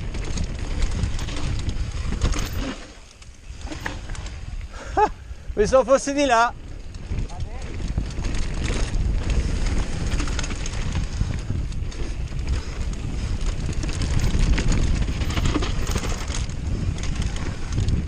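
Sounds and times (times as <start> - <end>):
bike clicks and rattles: 0.0 - 18.0
tyres on loose dirt: 0.0 - 18.0
wind rush on microphone: 0.0 - 18.0.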